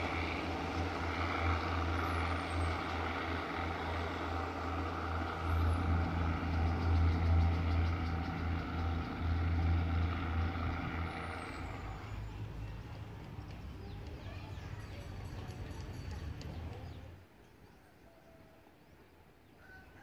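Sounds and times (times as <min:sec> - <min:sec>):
diesel train engine drone: 0:00.0 - 0:17.3.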